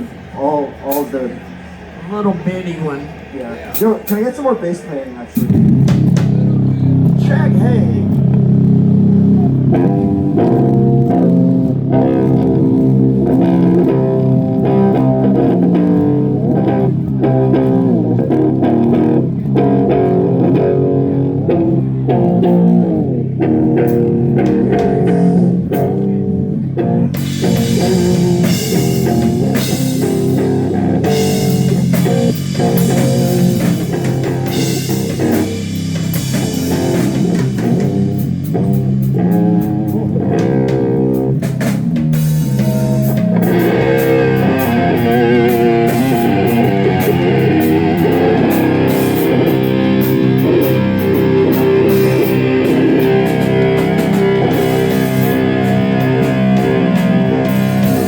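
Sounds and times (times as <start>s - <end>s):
drums: 0.0s - 58.0s
electric guitar riffs: 5.3s - 58.0s
bass guitar: 5.4s - 58.0s.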